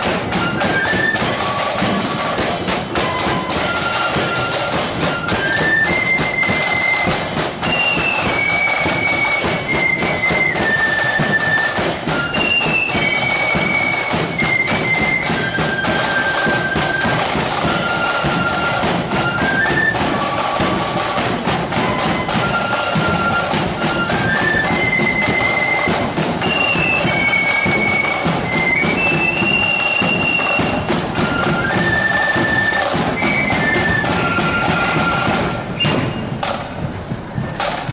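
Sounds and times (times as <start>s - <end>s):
drums beating time: 0.0s - 37.9s
flutes playing melody: 0.0s - 37.9s.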